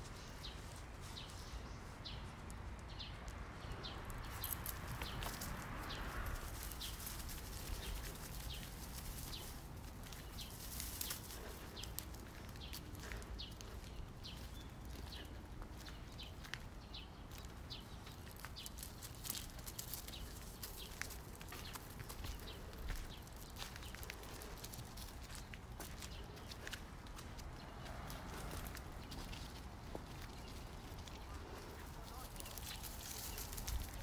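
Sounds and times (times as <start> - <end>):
light footsteps: 0.0 - 34.0.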